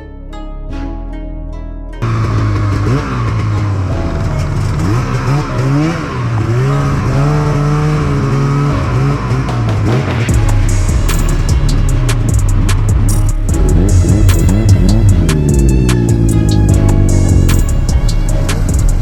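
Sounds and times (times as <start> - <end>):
plucked string music: 0.0 - 19.0
snowmobile engine revving: 2.0 - 19.0.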